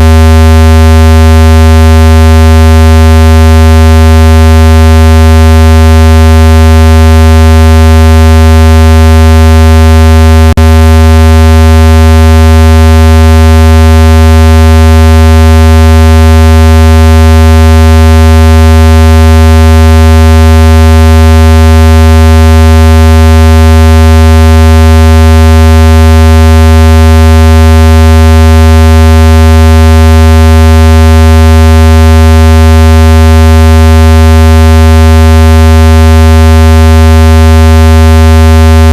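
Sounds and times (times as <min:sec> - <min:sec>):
loud low buzzing tone: 0:00.0 - 0:38.9.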